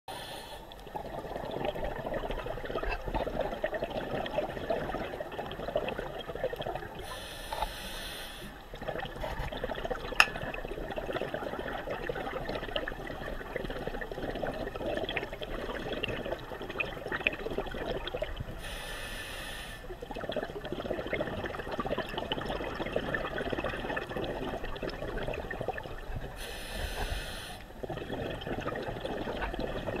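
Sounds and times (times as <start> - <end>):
underwater crackling and bubbling: 0.1 - 30.0.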